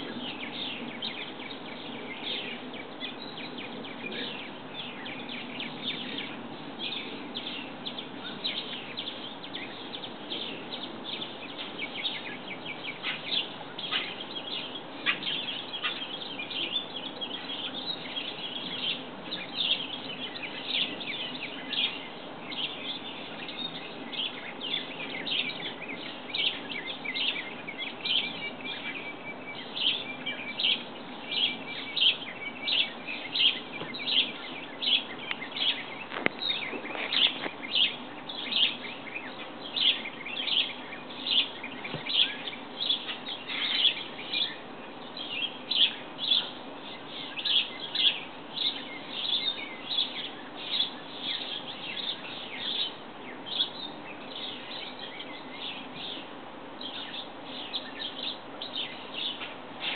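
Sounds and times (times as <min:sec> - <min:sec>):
bird chirping: 0:00.0 - 0:59.9
faint bird trill: 0:00.0 - 0:59.9.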